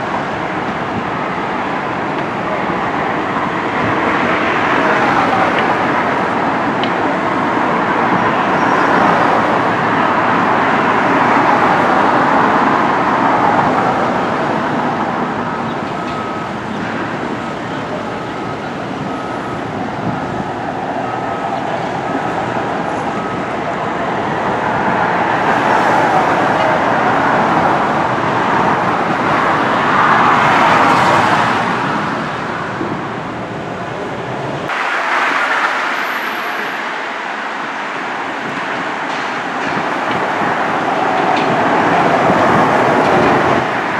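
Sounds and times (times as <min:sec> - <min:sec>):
vehicle noise: 0:00.0 - 0:43.9.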